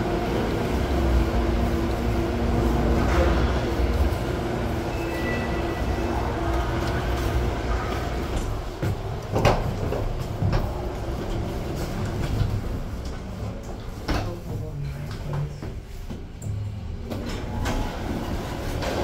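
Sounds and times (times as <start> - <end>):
train car rumbling: 0.0 - 19.0.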